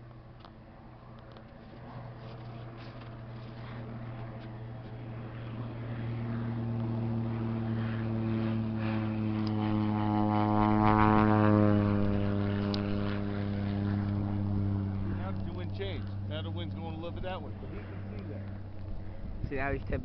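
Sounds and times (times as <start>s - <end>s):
propeller aircraft engine drone: 0.0s - 20.0s.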